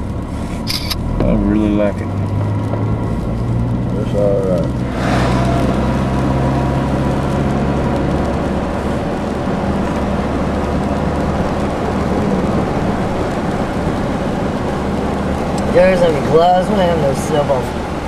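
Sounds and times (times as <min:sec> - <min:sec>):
car engine hum: 0:00.0 - 0:18.0
tyres hissing on wet road: 0:00.0 - 0:18.0.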